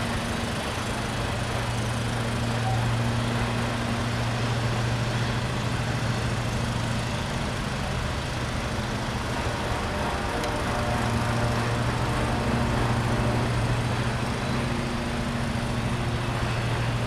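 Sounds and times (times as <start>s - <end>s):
train engine drone: 0.0s - 17.0s
train rushing noise: 0.0s - 17.0s.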